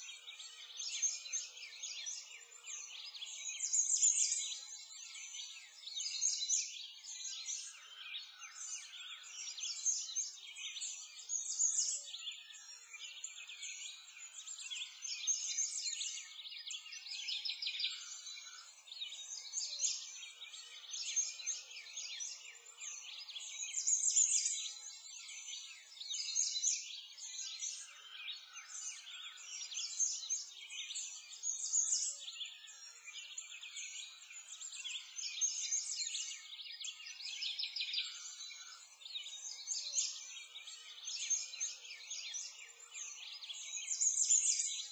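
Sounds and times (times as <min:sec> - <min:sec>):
songbirds chirping and singing: 0:00.0 - 0:44.9.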